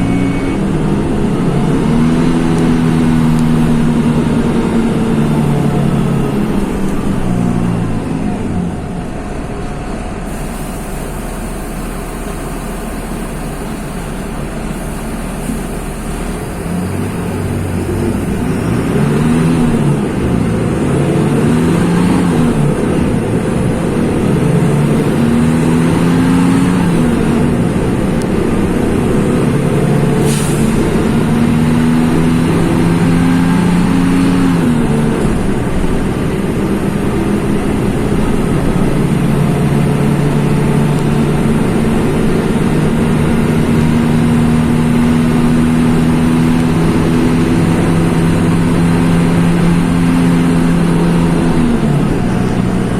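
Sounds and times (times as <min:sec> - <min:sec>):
diesel bus engine accelerating: 0:00.0 - 0:52.9.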